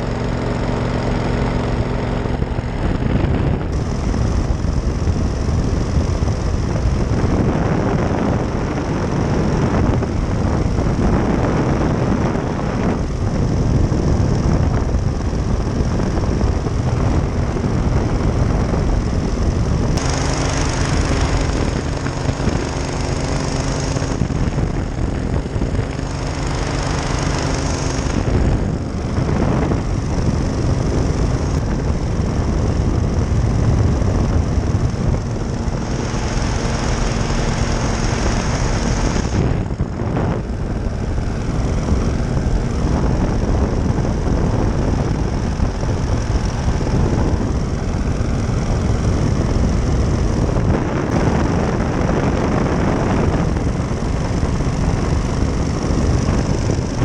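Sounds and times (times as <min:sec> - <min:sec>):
engine and propeller running: 0:00.0 - 0:57.0
heavy wind noise: 0:00.0 - 0:57.0.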